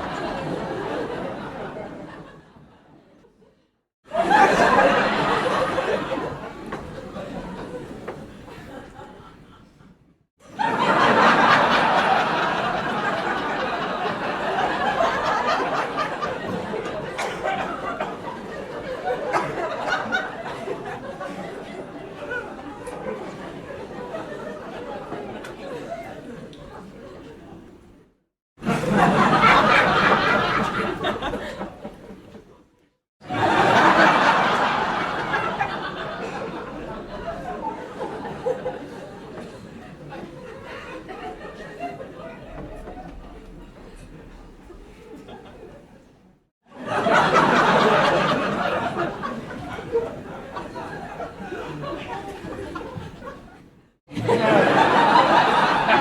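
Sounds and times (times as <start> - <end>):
crowd chatter: 0.0 - 3.4, 4.1 - 10.0, 10.7 - 32.7, 33.3 - 56.0
audience laughing: 0.0 - 27.6, 28.6 - 56.0.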